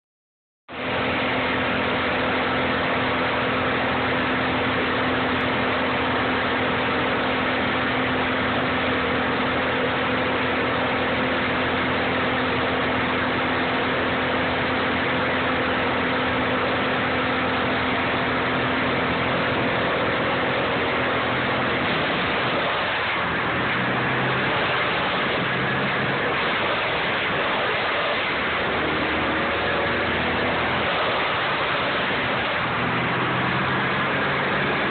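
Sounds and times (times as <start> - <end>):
wood chipper running: 0.7 - 34.9.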